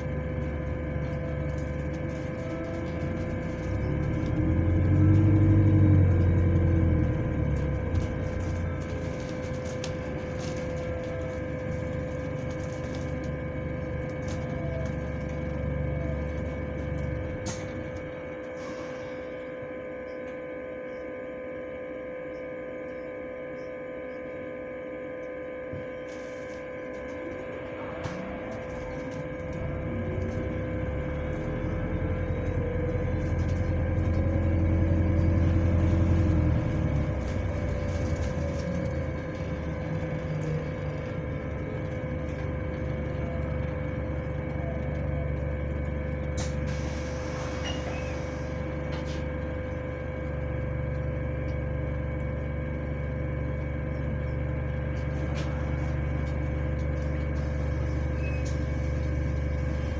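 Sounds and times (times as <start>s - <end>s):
bus drivetrain drone: 0.0s - 59.9s
high fan whine: 0.0s - 59.9s.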